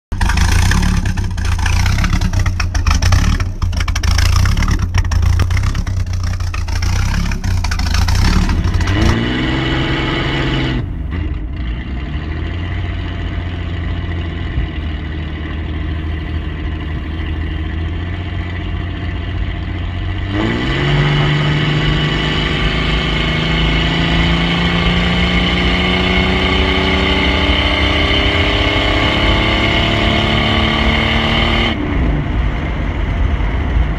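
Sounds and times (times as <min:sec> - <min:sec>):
engine accelerating from inside cabin: 0:00.1 - 0:33.9
loud rough engine exhaust: 0:00.1 - 0:33.9.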